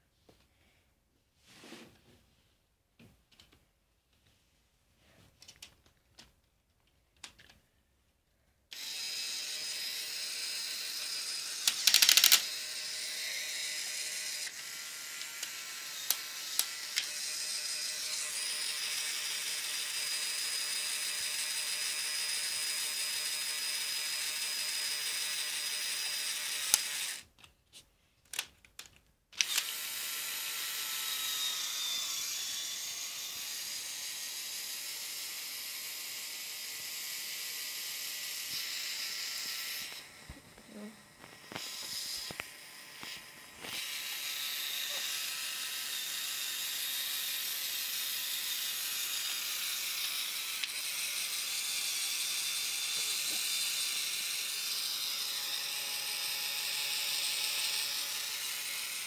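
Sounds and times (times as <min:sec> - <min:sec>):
electric motor whirring: 0:08.7 - 0:27.2, 0:29.4 - 0:59.0.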